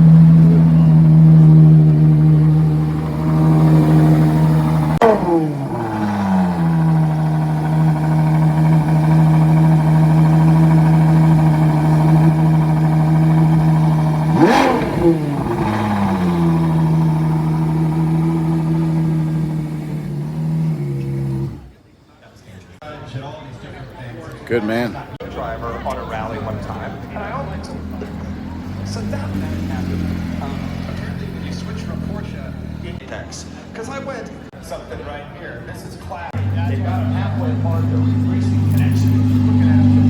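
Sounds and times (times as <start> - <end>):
car engine idling and revving: 0.0 - 21.8, 25.2 - 34.5, 36.3 - 40.0.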